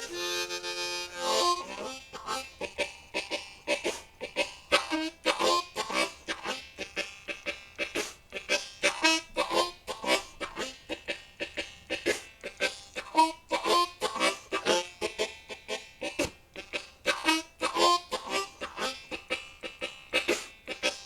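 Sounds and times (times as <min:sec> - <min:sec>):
blues harmonica: 0:00.0 - 0:21.0.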